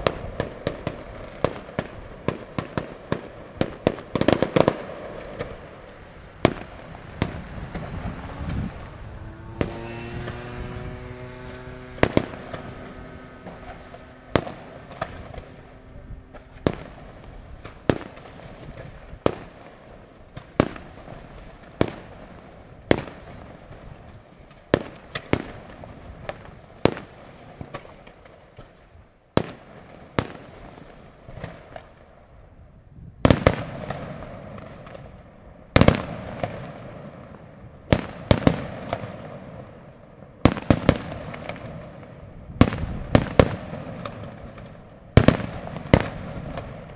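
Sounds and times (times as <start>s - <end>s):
fireworks bangs: 0.0s - 28.4s, 33.2s - 46.9s
fireworks crackling: 0.0s - 28.7s, 35.8s - 46.9s.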